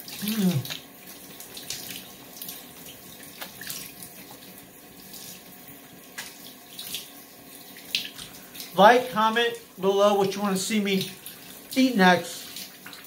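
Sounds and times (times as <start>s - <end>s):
shower spray running: 0.0s - 13.0s.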